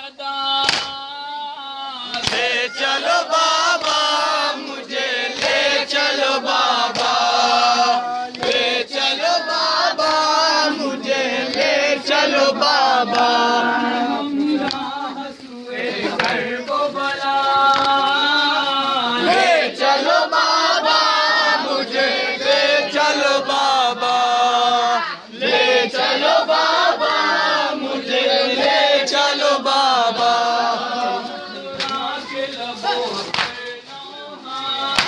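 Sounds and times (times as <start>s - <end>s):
men chanting in unison: 0.0s - 35.0s.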